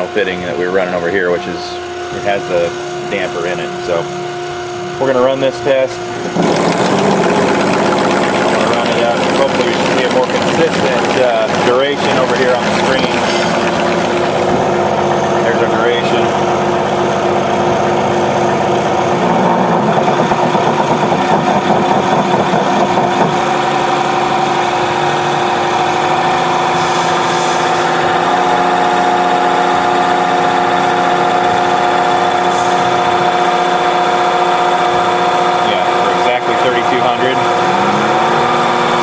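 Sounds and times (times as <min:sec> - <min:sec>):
diesel engine revving: 0:06.1 - 0:39.0.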